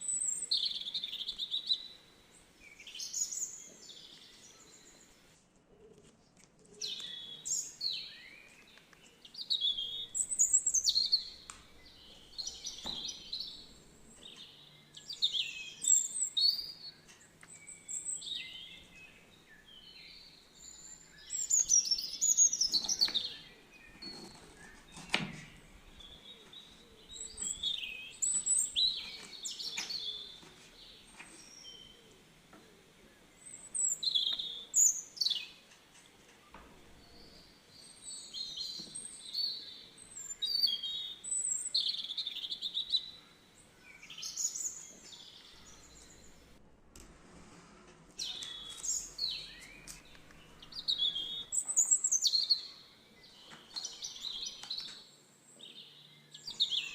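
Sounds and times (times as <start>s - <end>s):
birds chirping and singing: 0.0s - 5.3s, 6.7s - 46.6s, 48.2s - 56.9s.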